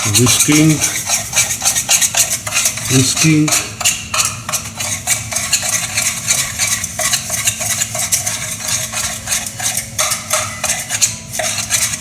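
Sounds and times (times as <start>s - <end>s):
metal spoon whisking in a container: 0.0s - 12.0s.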